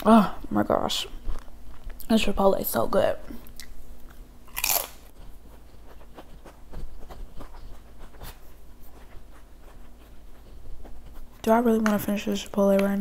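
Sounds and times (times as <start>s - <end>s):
soft chewing: 1.1s - 2.1s, 3.3s - 13.0s.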